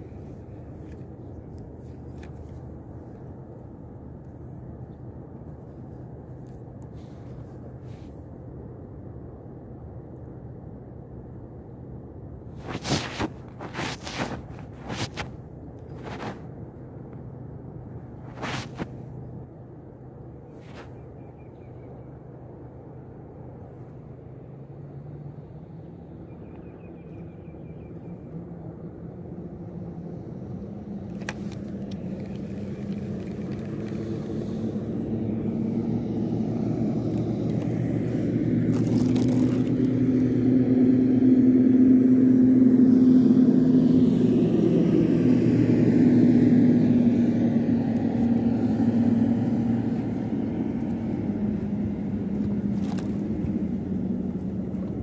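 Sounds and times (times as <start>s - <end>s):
engine humming passing by: 0.0s - 55.0s.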